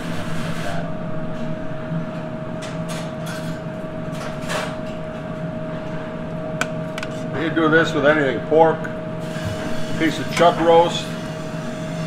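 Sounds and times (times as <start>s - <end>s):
high-pitched kitchen equipment hum: 0.0s - 12.0s.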